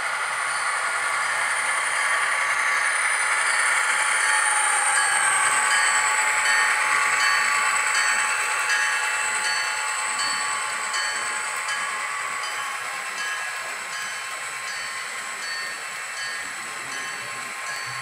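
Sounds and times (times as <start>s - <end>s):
model train running on track: 0.0s - 18.0s.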